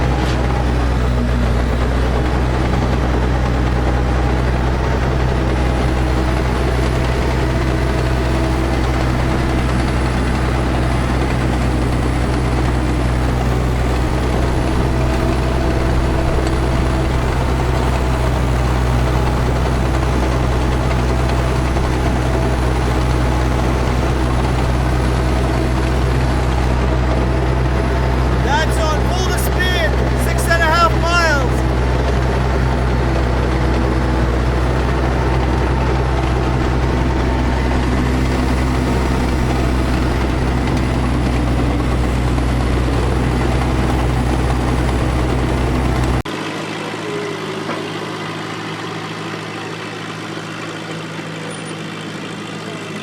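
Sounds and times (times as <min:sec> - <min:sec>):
engine fan turning: 0:00.0 - 0:51.2
diesel engine running: 0:00.0 - 0:53.0.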